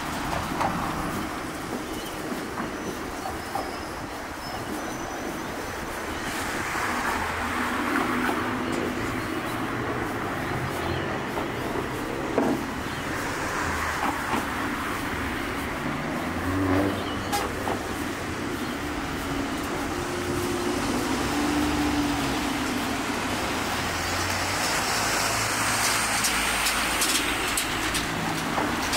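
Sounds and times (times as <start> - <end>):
road traffic passing: 0.0 - 28.9.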